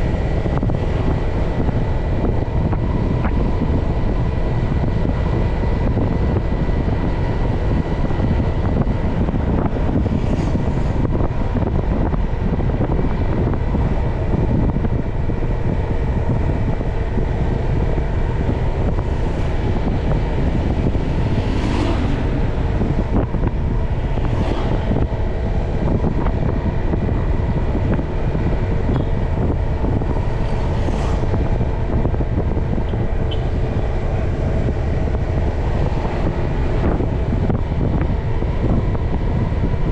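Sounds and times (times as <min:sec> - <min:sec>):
motorbike engine and road noise: 0:00.0 - 0:39.9
vehicles passing close by: 0:00.0 - 0:39.9
wind rumble on microphone: 0:00.0 - 0:39.9.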